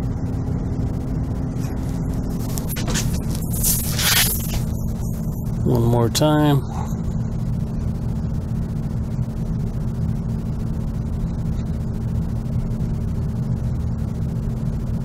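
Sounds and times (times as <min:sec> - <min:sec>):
furnace rumbling and humming: 0:00.0 - 0:15.0.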